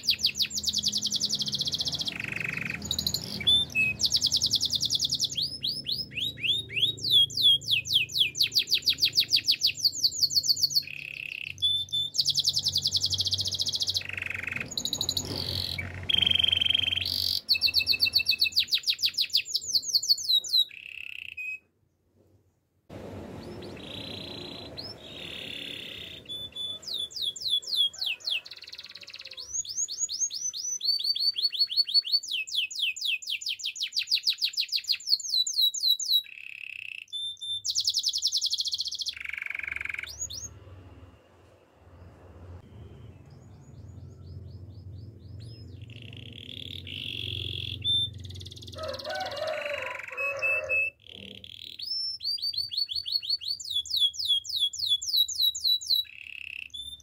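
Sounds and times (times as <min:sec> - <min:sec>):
canary singing trills: 0:00.0 - 0:21.7, 0:23.2 - 0:41.0, 0:41.9 - 0:57.0.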